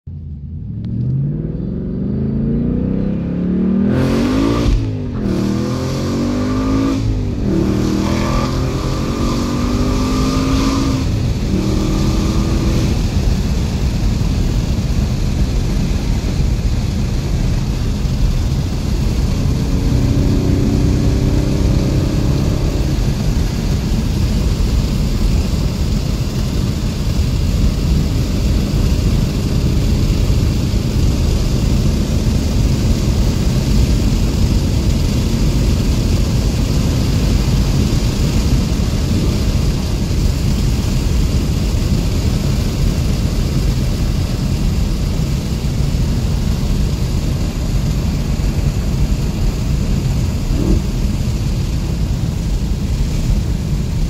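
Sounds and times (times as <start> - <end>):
road and tyre noise: 0.0 - 54.0
car engine accelerating: 0.1 - 54.0.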